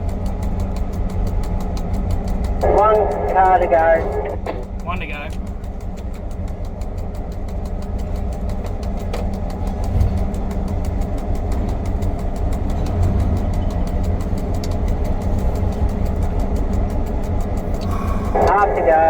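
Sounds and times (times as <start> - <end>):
locomotive diesel engine rumbling: 0.0 - 19.0.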